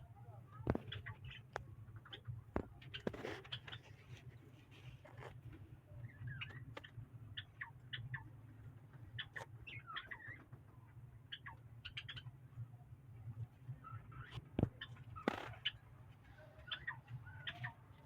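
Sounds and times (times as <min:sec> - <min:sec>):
low steady hum: 0:00.0 - 0:18.0
small birds chirping: 0:00.0 - 0:18.0.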